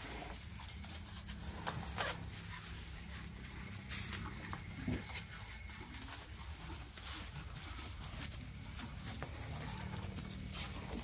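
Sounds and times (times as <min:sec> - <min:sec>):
cows chewing grass: 0:00.0 - 0:11.0.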